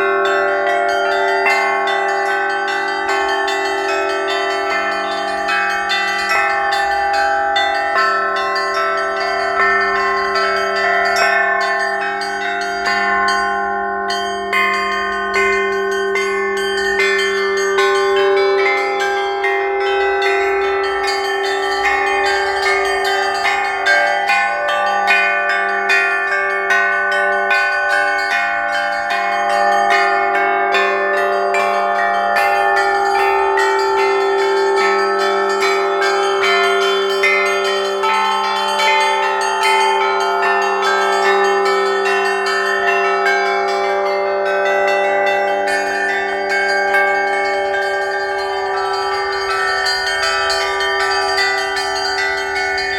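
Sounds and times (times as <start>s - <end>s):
church bells ringing: 0.0s - 52.9s
deep bell hum: 0.0s - 52.9s.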